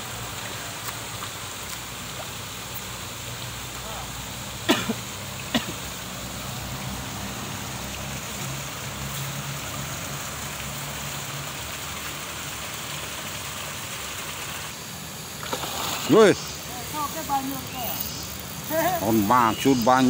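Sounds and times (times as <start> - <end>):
running water hissing: 0.0 - 20.0.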